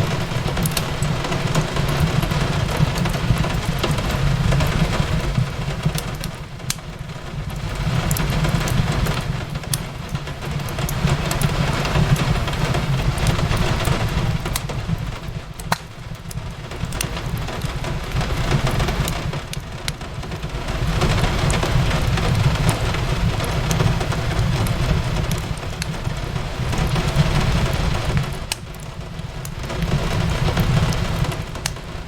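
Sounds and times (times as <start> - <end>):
fireplace crackling and popping: 0.0 - 32.0
steady rain: 0.0 - 32.0.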